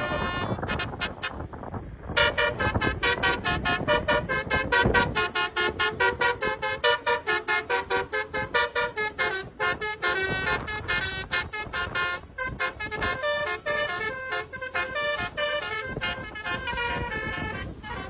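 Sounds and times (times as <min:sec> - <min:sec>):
bus horn playing a melody: 0:00.0 - 0:18.0.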